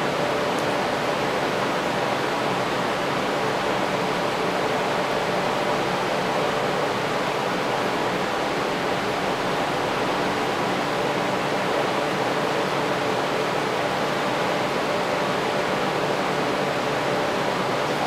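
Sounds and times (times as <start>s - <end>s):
electric fans rushing air: 0.0s - 18.0s
faint motor hum: 0.0s - 18.0s.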